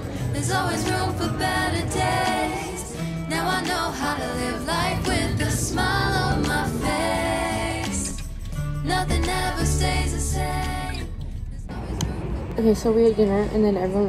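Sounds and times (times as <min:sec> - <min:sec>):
pop song with vocals: 0:00.0 - 0:12.6
bass notes: 0:00.0 - 0:14.0.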